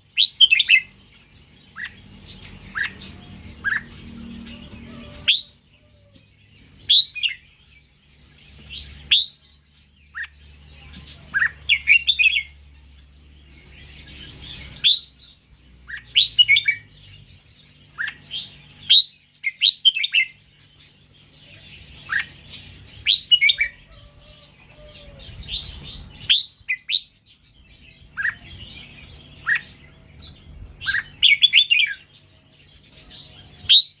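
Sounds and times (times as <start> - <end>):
bird singing whistled notes: 0.0 - 1.0, 1.7 - 6.0, 6.7 - 10.4, 13.6 - 20.9, 21.9 - 24.4, 25.0 - 32.1, 32.7 - 34.0.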